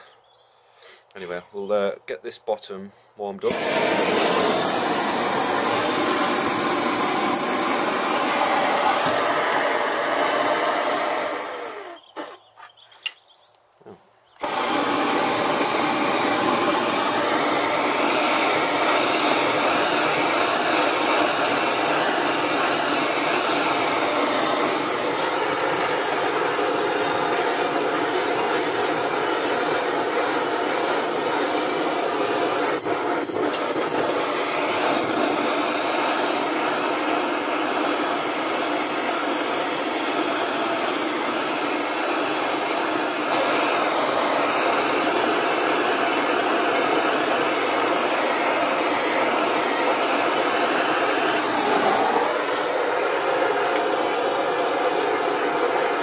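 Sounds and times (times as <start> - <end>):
blowtorch flame hissing: 3.4 - 12.4, 14.4 - 56.0.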